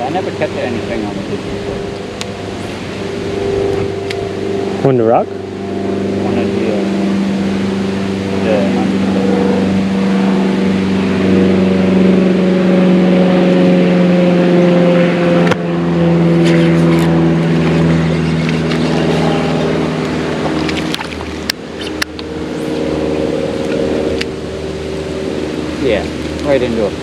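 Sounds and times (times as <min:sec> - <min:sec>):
engine hum: 0:00.0 - 0:27.0.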